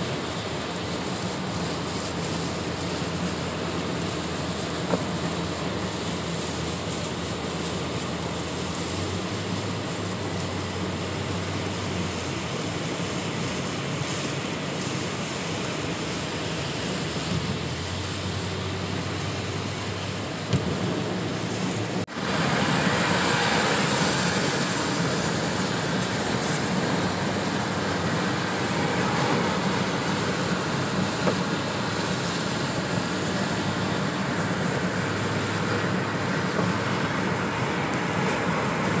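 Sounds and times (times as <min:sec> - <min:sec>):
heavy rain on a car: 0:00.0 - 0:39.0
tyres on flooded road: 0:00.0 - 0:39.0.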